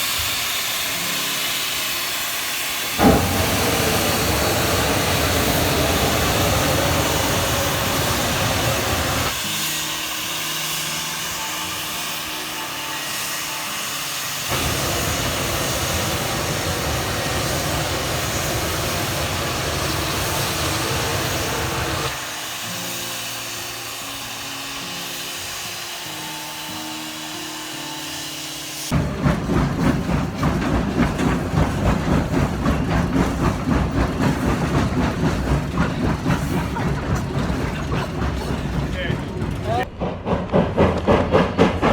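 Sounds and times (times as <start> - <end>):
steam locomotive hissing: 0.0 - 41.9.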